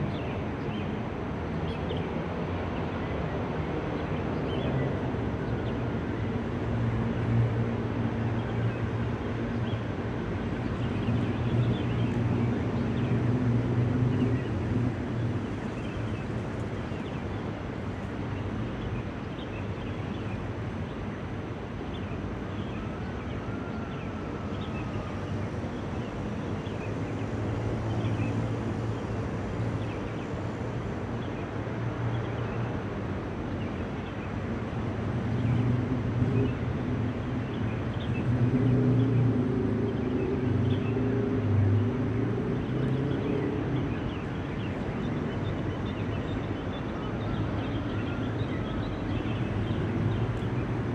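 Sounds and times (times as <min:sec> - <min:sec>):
road traffic rumble: 0:00.0 - 0:50.9.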